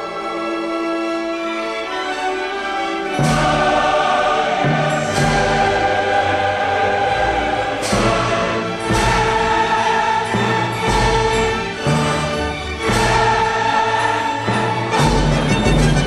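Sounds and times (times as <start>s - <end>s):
choir singing: 0.0s - 16.0s
orchestra playing: 0.0s - 16.0s.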